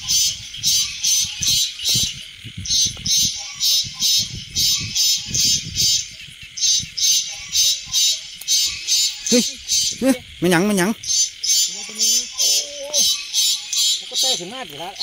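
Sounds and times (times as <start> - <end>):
high-pitched pulsed chirping: 0.0 - 15.0.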